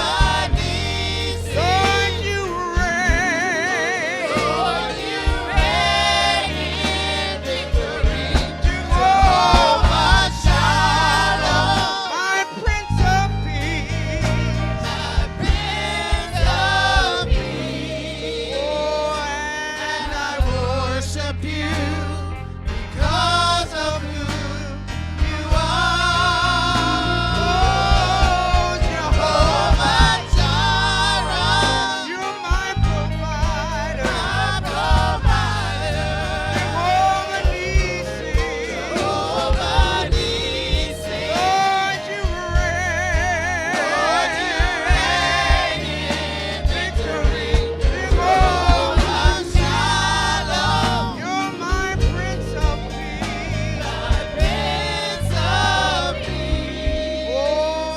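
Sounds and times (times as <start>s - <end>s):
band with bass and drums: 0.0s - 57.9s
people singing with vibrato: 0.0s - 57.9s.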